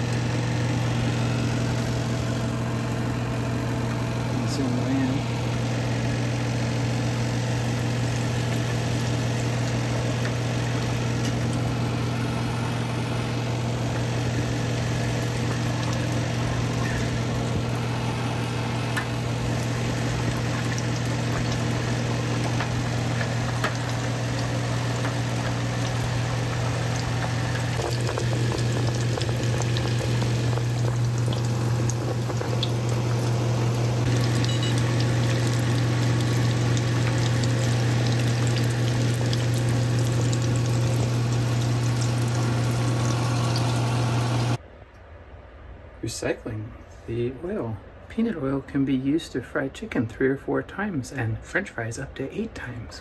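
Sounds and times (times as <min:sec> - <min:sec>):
chicken deep-frying sizzle: 0:00.0 - 0:44.6
low hum: 0:00.0 - 0:46.0.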